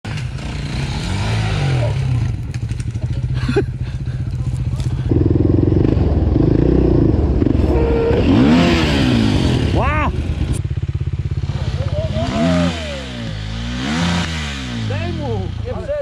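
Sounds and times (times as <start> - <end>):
quad engines revving: 0.1 - 16.0.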